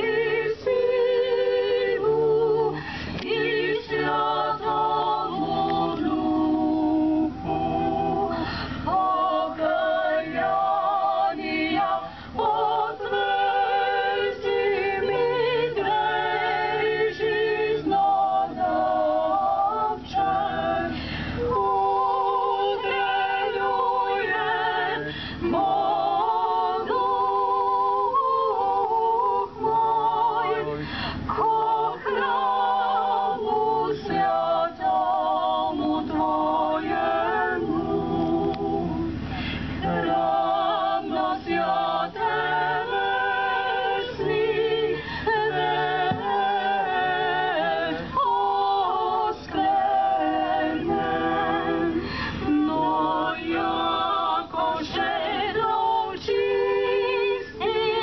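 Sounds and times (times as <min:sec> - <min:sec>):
women's choir singing a cappella: 0:00.0 - 0:58.0.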